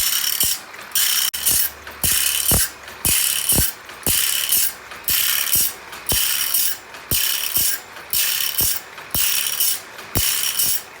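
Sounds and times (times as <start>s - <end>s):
grinding wheel hissing on metal: 0.0s - 10.9s
sharp mechanical click: 0.0s - 10.9s.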